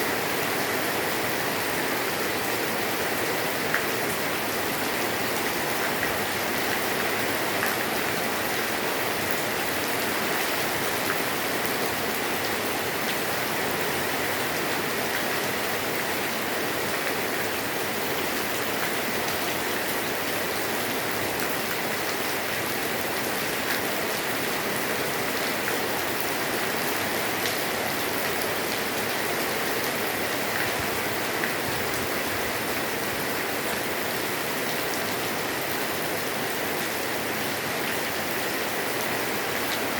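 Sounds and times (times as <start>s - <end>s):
light rain on a roof: 0.0s - 39.9s.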